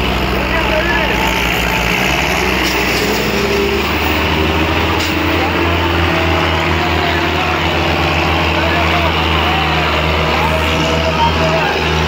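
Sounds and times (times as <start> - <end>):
crowd voices: 0.0 - 12.0
diesel tractor engine running: 0.0 - 12.0.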